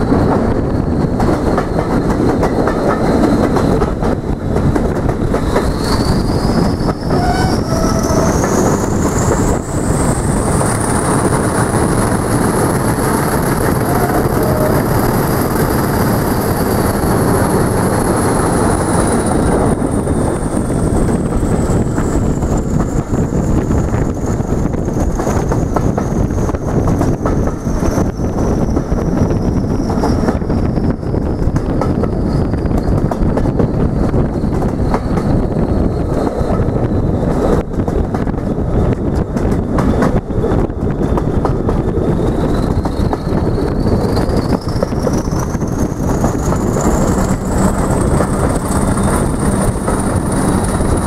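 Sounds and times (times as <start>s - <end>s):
train rumble on rails: 0.0s - 51.0s.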